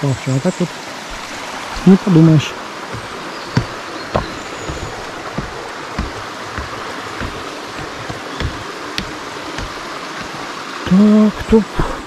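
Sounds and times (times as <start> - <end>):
stream running over stones: 0.0 - 12.0
footsteps on path: 1.0 - 12.0.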